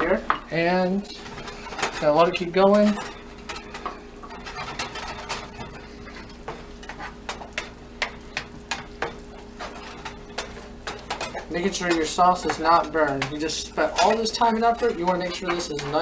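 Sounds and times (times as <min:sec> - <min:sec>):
wooden spoon scraping a pan: 0:00.0 - 0:16.0.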